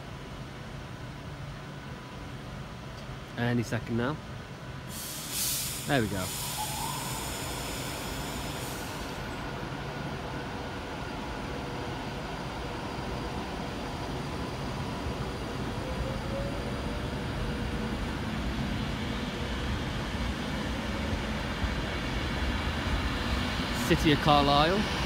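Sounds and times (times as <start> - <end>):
electric train rumble and hiss: 0.0 - 25.0.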